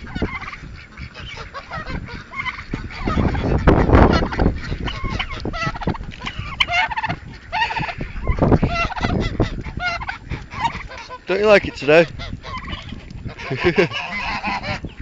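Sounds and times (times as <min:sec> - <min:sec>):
chickens geese and ducks calling: 0:00.0 - 0:15.0.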